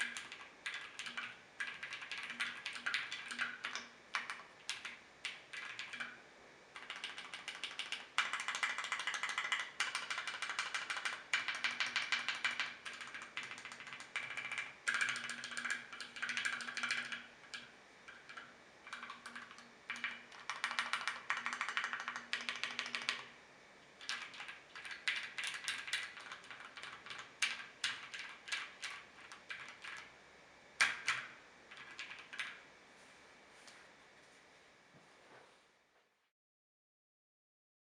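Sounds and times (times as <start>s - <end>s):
mechanical keyboard typing: 0.0s - 6.2s, 6.8s - 23.3s, 24.0s - 30.1s, 30.8s - 32.6s.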